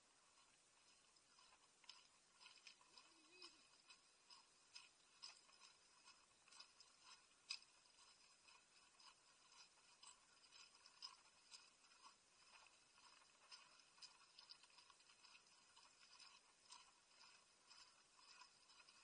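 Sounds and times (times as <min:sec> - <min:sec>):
faint muffled ticks and scuffs: 0:00.0 - 0:19.0.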